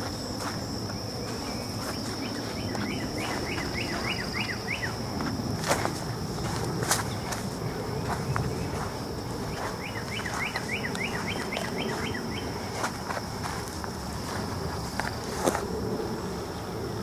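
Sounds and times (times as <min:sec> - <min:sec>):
footsteps on dirt path: 0:00.0 - 0:16.0
high insect drone: 0:00.0 - 0:17.0
songbird singing: 0:00.0 - 0:17.0.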